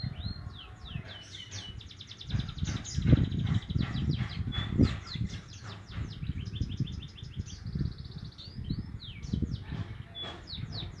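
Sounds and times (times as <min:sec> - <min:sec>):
young birds twittering: 0:00.0 - 0:11.0.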